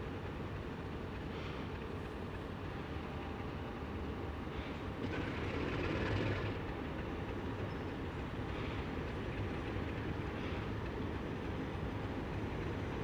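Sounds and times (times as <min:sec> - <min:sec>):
locomotive low rumble: 0:00.0 - 0:13.0.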